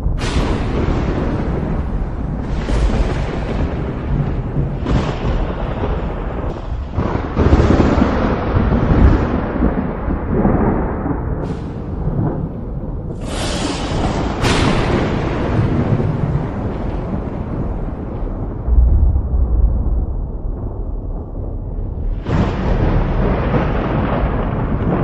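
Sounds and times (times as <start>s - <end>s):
sharp thunder cracks: 0.0s - 25.0s
steady rain: 0.0s - 25.0s
thunder rumbling: 0.0s - 25.0s.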